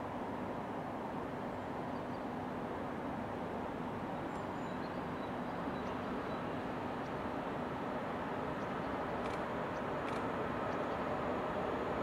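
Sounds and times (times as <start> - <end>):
outdoor rumble and hiss: 0.0 - 12.0.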